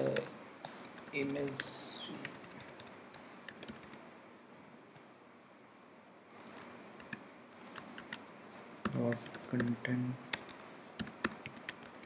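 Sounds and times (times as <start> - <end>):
computer keyboard typing: 0.0 - 4.0, 6.3 - 12.0.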